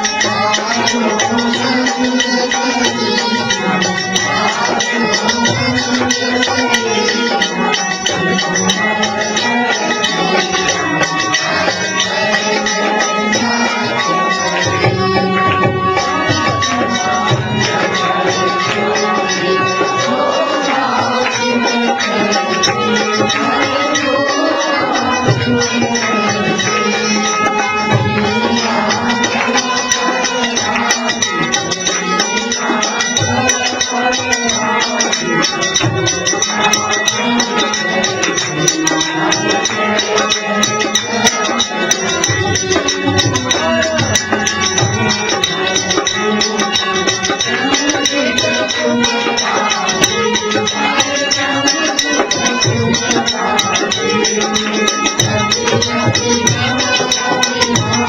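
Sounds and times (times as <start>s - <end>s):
devotional hymn singing: 0.0s - 58.0s
percussion: 0.0s - 58.0s.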